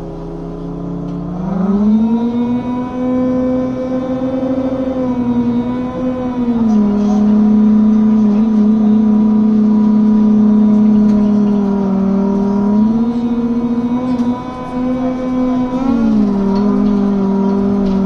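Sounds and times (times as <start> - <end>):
bus fans humming: 0.0 - 18.0
diesel engine: 0.0 - 18.0.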